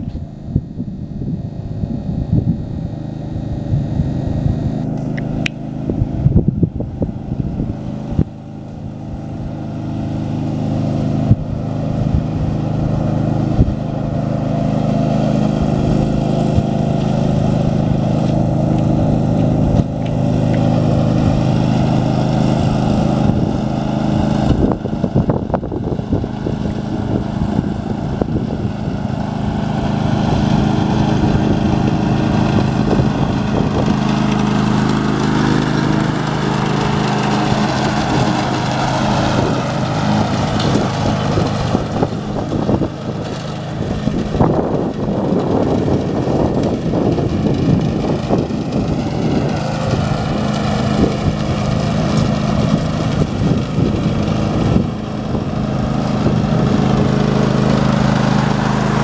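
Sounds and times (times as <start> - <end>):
ride-on lawn mower engine: 0.0 - 59.0.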